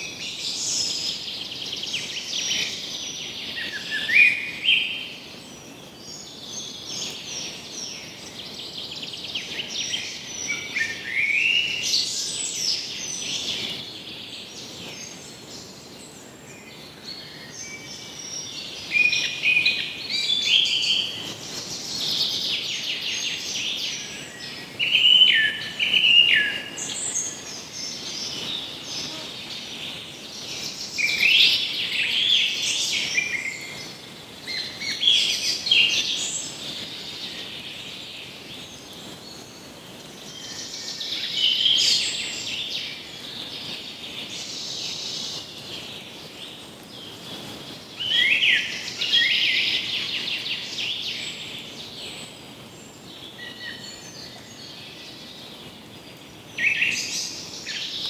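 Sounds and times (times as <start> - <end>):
faint outdoor hiss: 0.0 - 58.0
songbirds chirping and trilling: 0.0 - 58.0.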